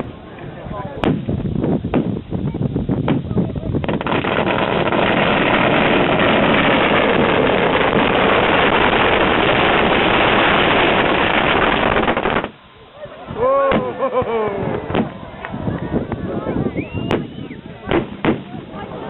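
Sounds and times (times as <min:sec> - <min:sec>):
fireworks hissing crackle: 0:00.0 - 0:19.0.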